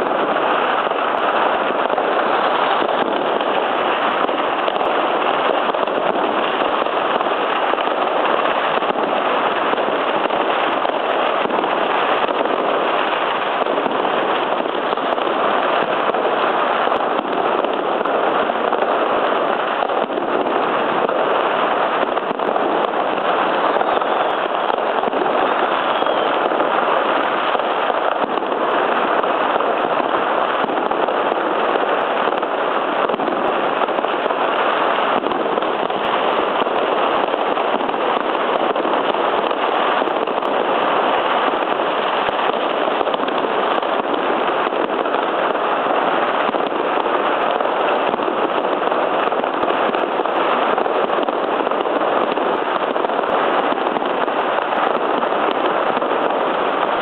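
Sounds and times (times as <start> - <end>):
fireworks dense crackle: 0.0 - 57.0.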